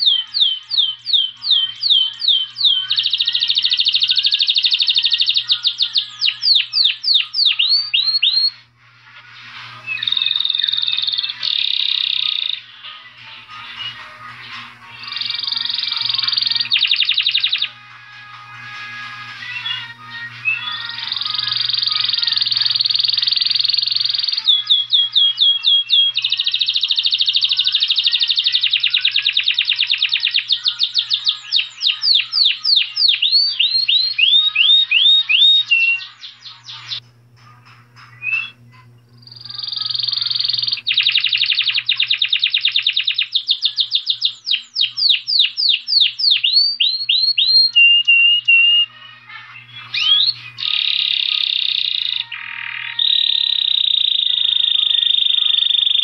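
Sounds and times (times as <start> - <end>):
finch singing buzzy trills: 0.0 - 8.6, 9.3 - 37.0, 38.0 - 56.0.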